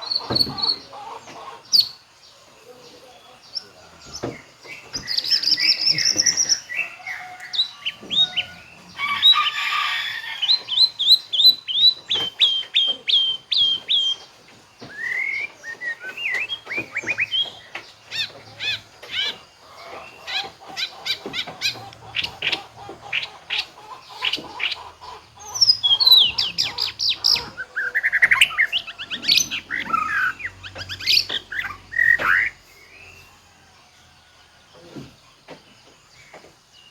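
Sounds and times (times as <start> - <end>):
bird singing varied song: 0.0 - 36.9.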